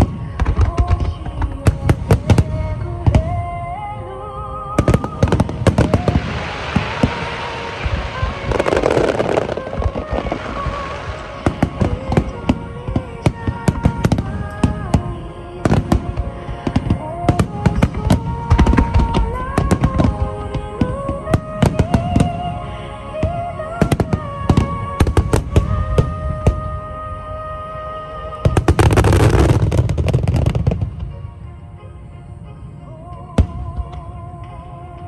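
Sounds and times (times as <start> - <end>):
fireworks bursting and crackling: 0.0 - 3.5, 4.7 - 27.4, 28.0 - 31.4
slow melodic music: 0.0 - 35.0.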